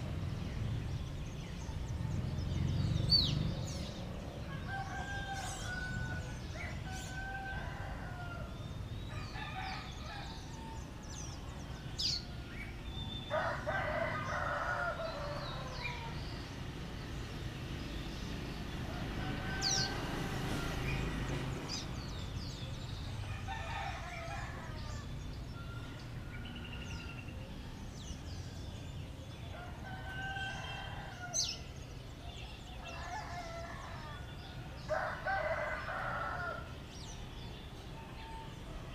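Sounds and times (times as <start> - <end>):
roosters crowing: 1.6 - 38.9.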